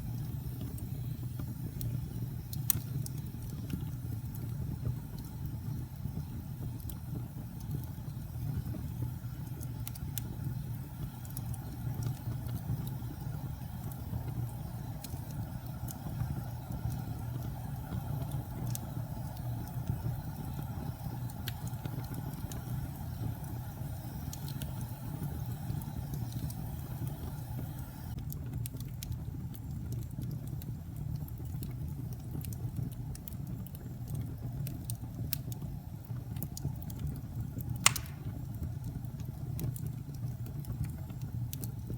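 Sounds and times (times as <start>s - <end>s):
fire flames rumbling: 0.0s - 41.9s
wood fire crackling and popping: 0.0s - 41.9s.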